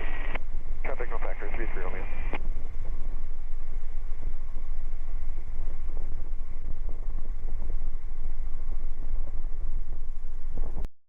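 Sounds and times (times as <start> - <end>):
helicopter engine and rotor drone: 0.0 - 10.8.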